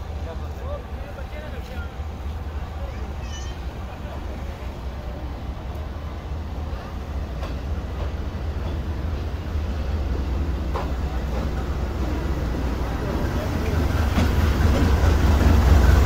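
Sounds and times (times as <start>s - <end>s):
train clanks: 0.0s - 16.0s
train rumbling slowly: 0.0s - 16.0s.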